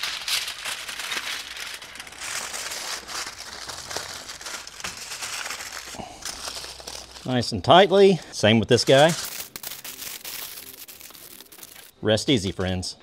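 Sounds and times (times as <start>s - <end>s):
aluminium foil crinkling: 0.0s - 12.8s.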